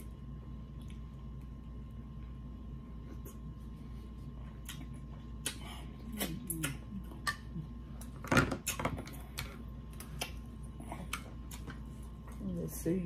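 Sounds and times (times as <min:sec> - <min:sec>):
wet chewing and smacking: 0:00.1 - 0:02.4, 0:03.0 - 0:12.5.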